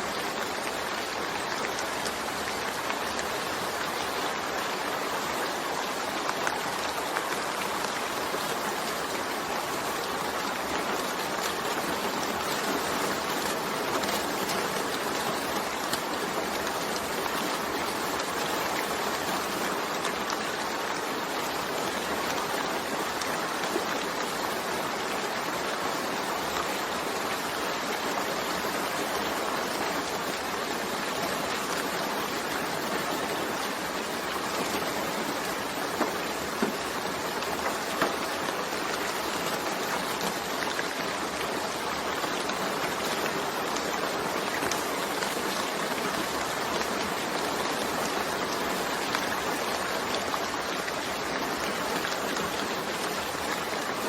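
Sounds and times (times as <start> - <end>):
rain drops ticking: 0.0 - 54.0
steady rain hiss: 0.0 - 54.0.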